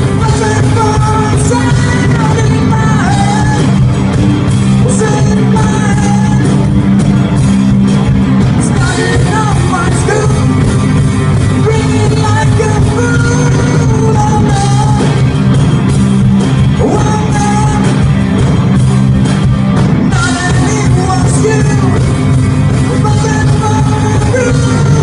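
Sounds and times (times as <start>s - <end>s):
person singing: 0.0s - 4.1s, 4.7s - 6.8s, 8.4s - 15.5s, 16.6s - 18.5s, 20.1s - 25.0s
rock band playing live: 0.0s - 25.0s.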